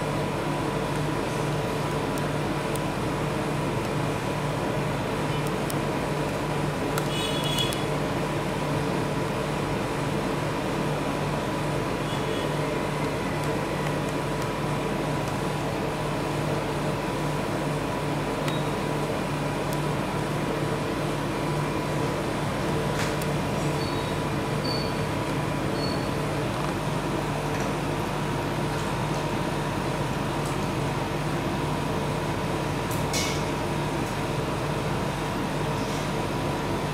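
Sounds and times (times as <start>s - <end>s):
mechanical hum: 0.0s - 36.9s.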